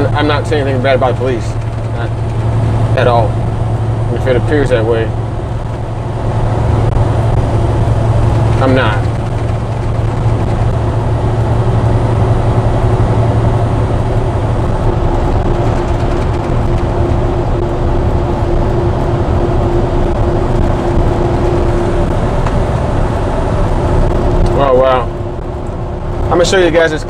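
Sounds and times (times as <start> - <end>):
higher steady hum: 0.0 - 27.0
road noise: 0.0 - 27.0
truck engine drone: 0.0 - 27.0.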